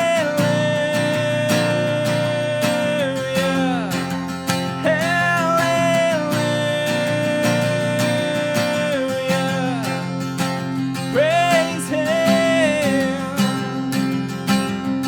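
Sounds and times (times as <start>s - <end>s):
sliding held melody line: 0.0s - 14.4s
acoustic guitar strumming: 0.0s - 15.0s.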